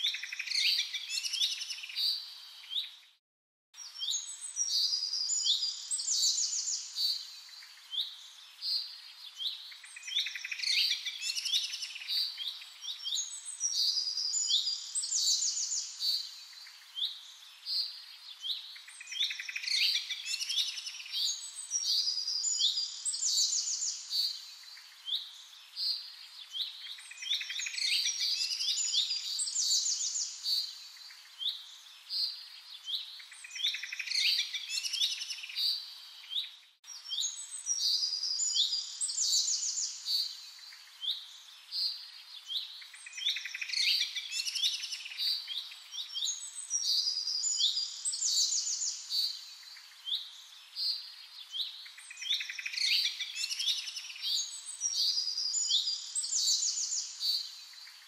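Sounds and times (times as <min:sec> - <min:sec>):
small birds chirping and trilling: 0:00.0 - 0:03.2, 0:03.8 - 0:58.0.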